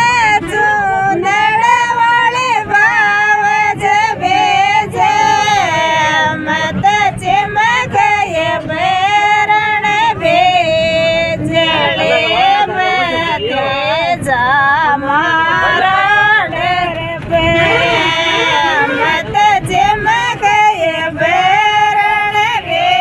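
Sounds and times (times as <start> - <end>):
women singing folk song: 0.0 - 23.0.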